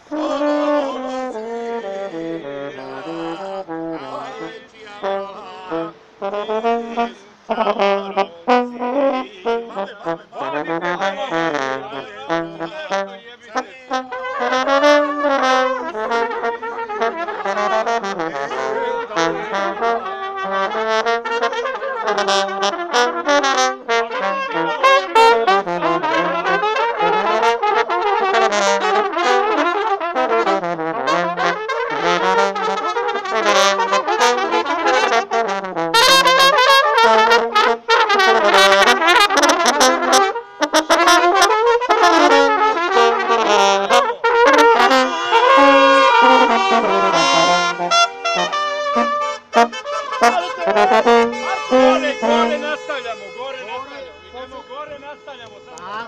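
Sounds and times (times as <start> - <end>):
lower brass accompaniment: 0.0 - 55.8
brass trumpets playing a melody: 0.0 - 56.0.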